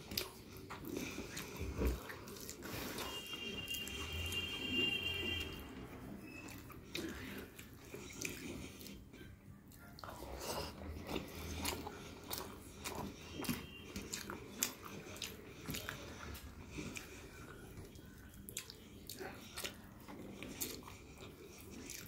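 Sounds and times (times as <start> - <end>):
person chewing: 0.0 - 22.0.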